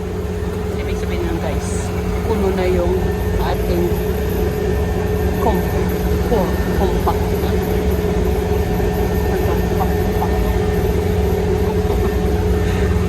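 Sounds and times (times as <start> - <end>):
harvester engine droning: 0.0 - 13.0.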